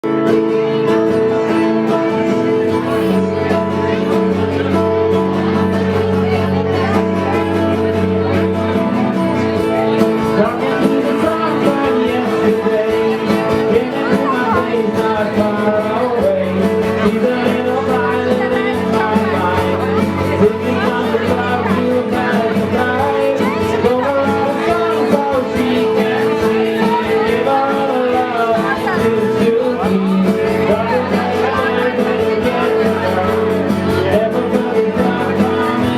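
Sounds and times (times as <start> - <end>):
bass notes: 0.0 - 35.9
guitar chords: 0.0 - 35.9
rock band playing: 0.0 - 35.9.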